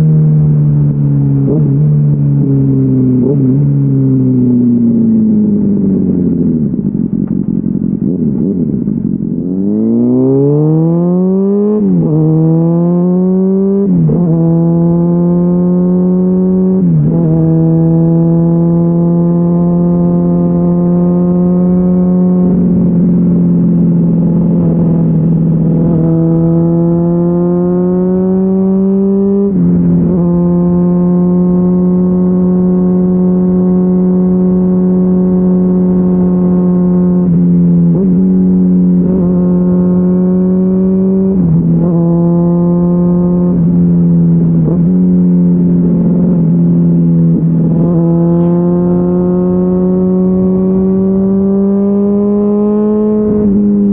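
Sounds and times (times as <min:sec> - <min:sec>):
motorcycle engine accelerating and upshifting: 0:00.0 - 0:53.9.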